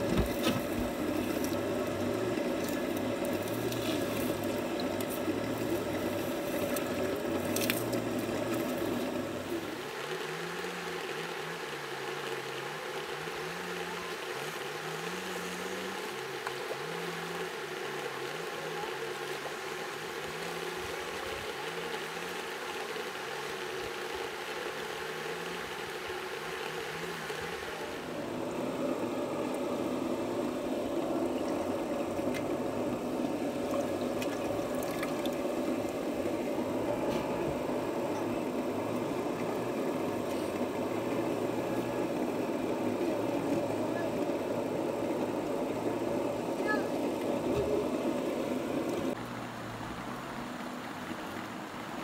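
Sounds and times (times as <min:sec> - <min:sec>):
stream water running and sloshing: 0:00.0 - 0:52.0.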